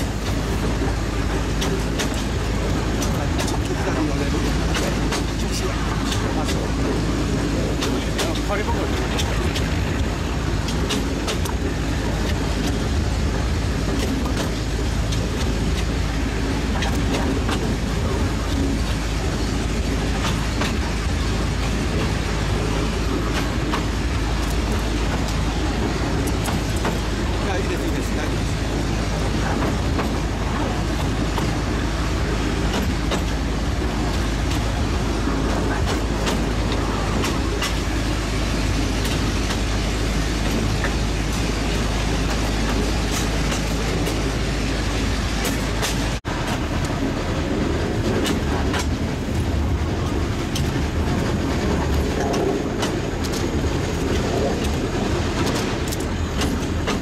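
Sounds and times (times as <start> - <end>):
steam locomotive running: 0.0 - 57.0
train clanks: 0.0 - 57.0.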